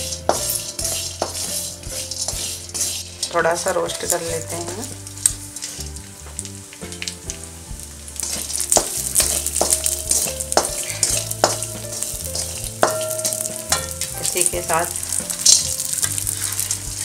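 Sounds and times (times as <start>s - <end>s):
spatula scraping a metal pan: 0.0s - 6.1s, 8.1s - 17.0s
frying sizzle: 0.0s - 17.0s
soft background music: 0.0s - 17.0s.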